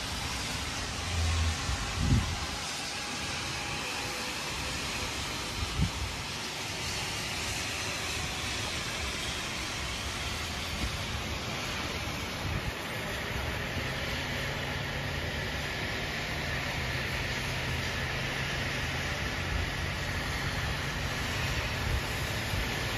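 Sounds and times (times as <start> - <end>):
cars driving on wet roads: 0.0 - 22.9
low drone: 0.0 - 22.9
rain hissing: 0.0 - 22.9.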